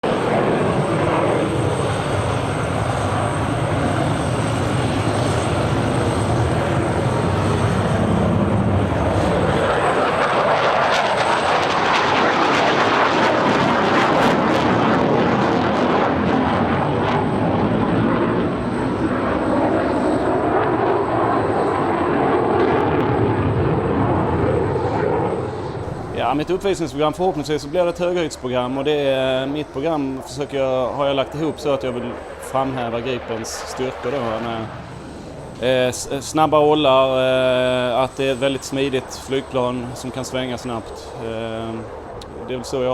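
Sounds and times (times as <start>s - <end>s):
aircraft engine roar overhead: 0.0s - 42.9s.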